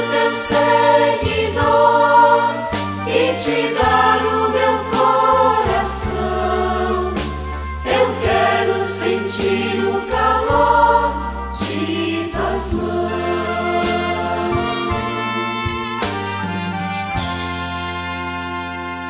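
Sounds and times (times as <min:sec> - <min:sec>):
choir singing worship song: 0:00.0 - 0:15.7
steady bass line: 0:00.0 - 0:19.0.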